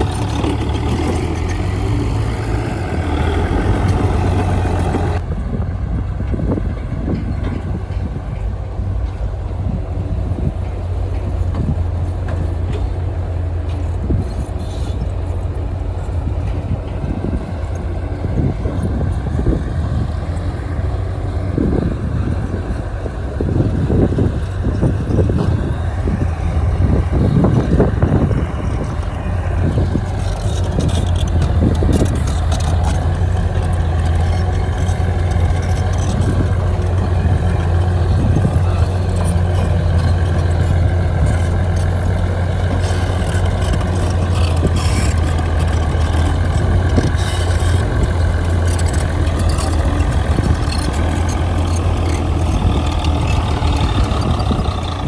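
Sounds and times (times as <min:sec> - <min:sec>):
diesel earthmoving machinery running: 0:00.0 - 0:55.0.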